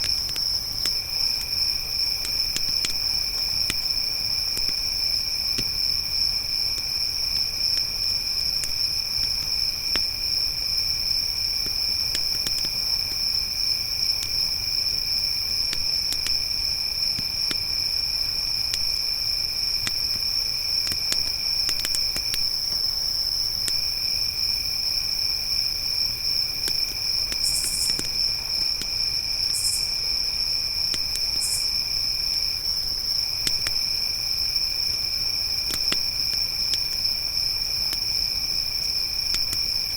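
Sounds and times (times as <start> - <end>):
campfire crackling: 0.0 - 39.9
crickets trilling: 0.0 - 39.9
lower insect trill: 0.0 - 39.9.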